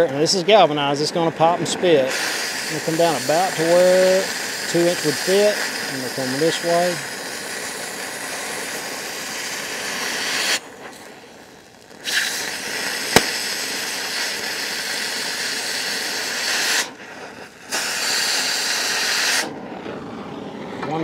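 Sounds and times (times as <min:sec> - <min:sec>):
cutting torch hissing: 0:00.0 - 0:21.0
coating popping under flame: 0:01.4 - 0:21.0.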